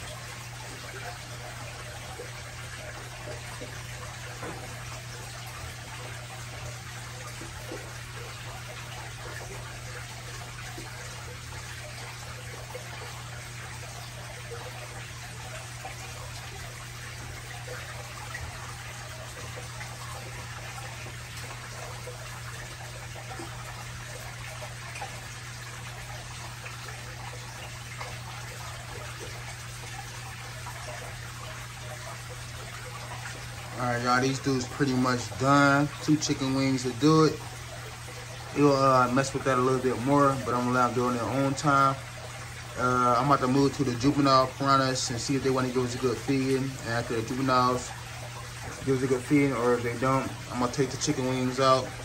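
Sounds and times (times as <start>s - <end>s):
aquarium filter low hum: 0.0s - 52.0s
water trickling: 0.0s - 52.0s.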